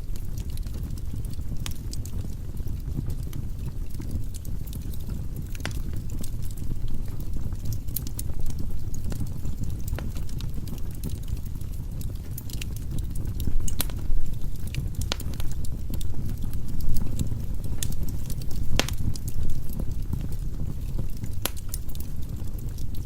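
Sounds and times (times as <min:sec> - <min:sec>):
flames rumbling in fireplace: 0:00.0 - 0:23.0
wood crackling and popping: 0:00.0 - 0:23.0.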